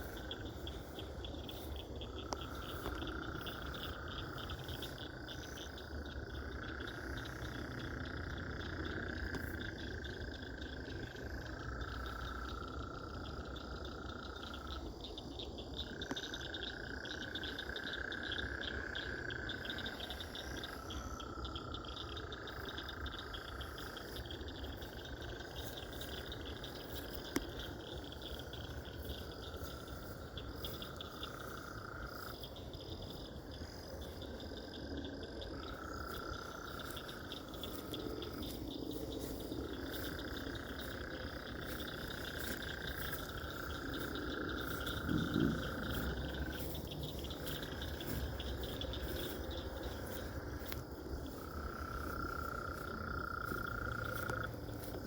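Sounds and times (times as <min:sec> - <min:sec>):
frogs trilling: 0:00.0 - 0:55.0
high-pitched pulsing frog chorus: 0:00.0 - 0:55.0.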